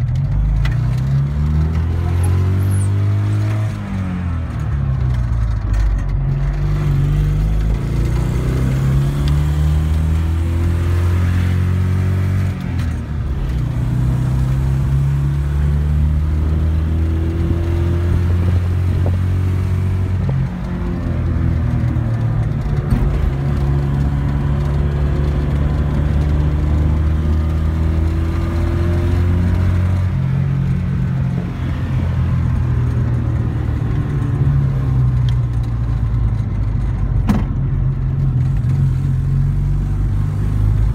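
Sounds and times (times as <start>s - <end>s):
truck engine while driving: 0.0s - 40.9s.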